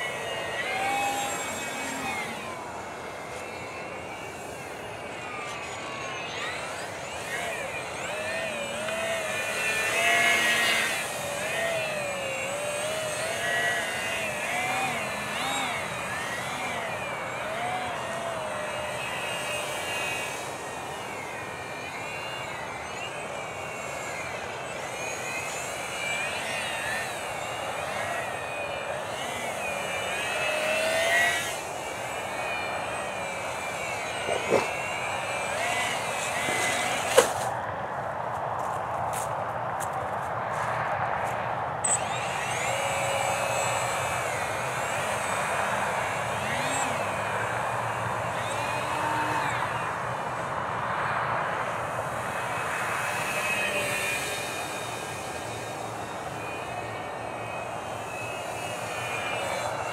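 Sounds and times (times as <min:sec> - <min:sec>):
electric motor propeller whining: 0:00.0 - 0:59.9.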